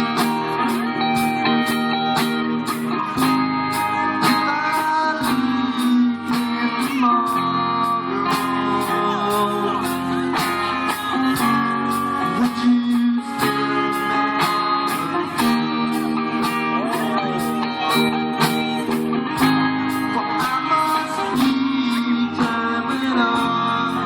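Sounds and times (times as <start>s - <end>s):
electric guitar bending notes: 0.0s - 24.0s
steady drum beat: 0.0s - 24.0s.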